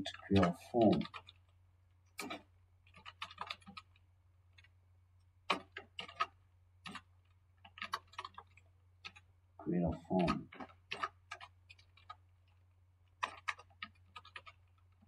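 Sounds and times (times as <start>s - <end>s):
keyboard typing: 0.0s - 4.8s, 5.5s - 15.0s.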